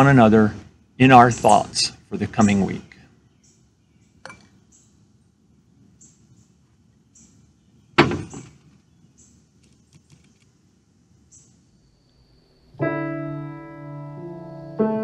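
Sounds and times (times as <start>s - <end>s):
faint low background: 0.0s - 15.0s.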